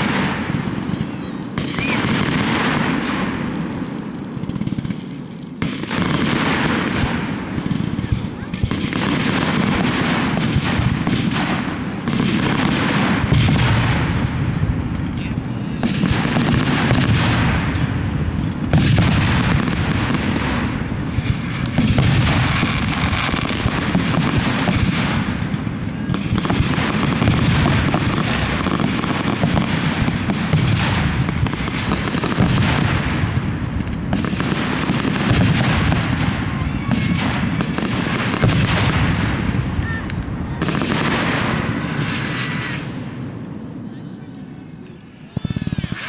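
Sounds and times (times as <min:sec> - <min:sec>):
fireworks booming and crackling: 0:00.0 - 0:46.0.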